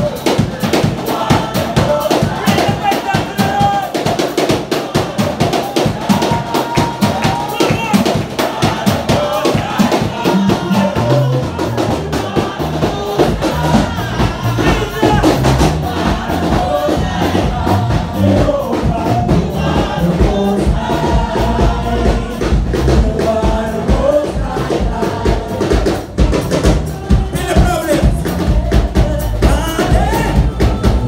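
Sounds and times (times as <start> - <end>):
drum beat: 0.0 - 31.0
live band music through speakers: 0.0 - 31.0
person singing: 4.9 - 31.0.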